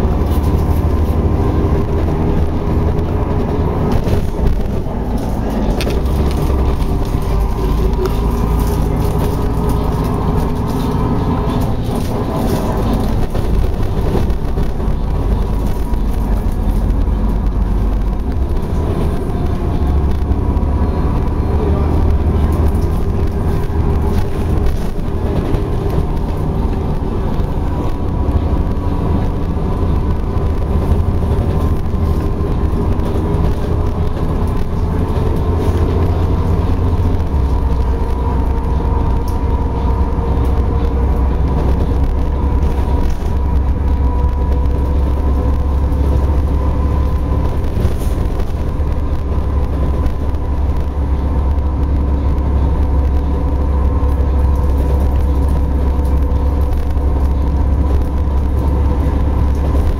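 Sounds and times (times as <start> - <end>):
car engine hum: 0.0 - 59.9
road rumble: 0.0 - 59.9.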